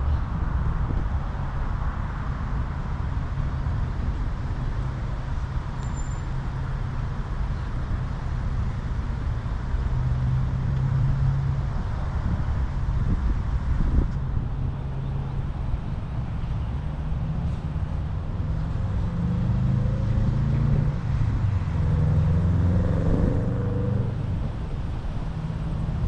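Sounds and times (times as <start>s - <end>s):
low vehicle hum: 0.0s - 26.0s
road traffic rumble: 0.0s - 26.0s.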